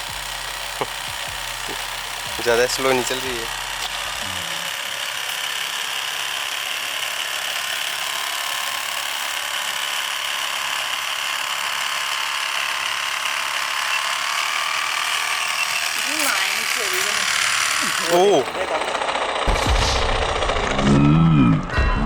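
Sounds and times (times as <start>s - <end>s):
electric motor and propeller whirring: 0.0s - 21.1s.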